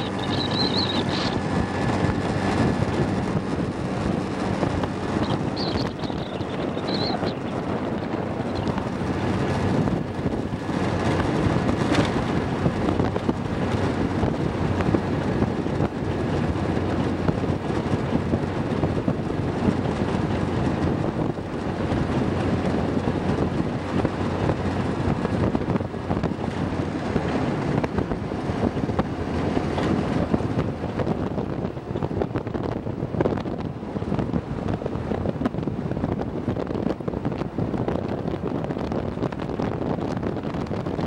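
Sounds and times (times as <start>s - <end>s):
vehicle engine and tyres on sand: 0.0s - 41.0s
wind buffeting microphone: 0.0s - 41.0s.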